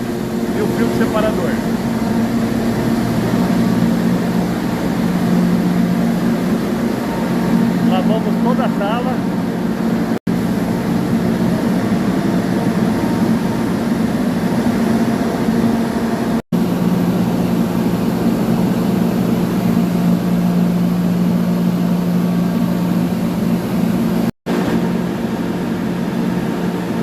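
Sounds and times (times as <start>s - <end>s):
industrial machinery droning: 0.0s - 27.0s.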